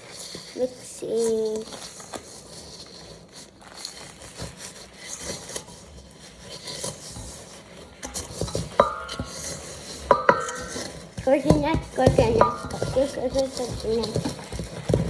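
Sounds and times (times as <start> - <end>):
dry cereal stirred in a bowl: 0.0 - 15.0.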